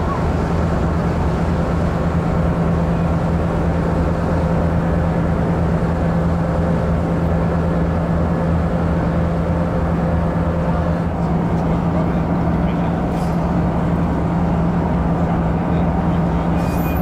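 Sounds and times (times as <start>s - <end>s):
ship engines droning: 0.0s - 17.0s.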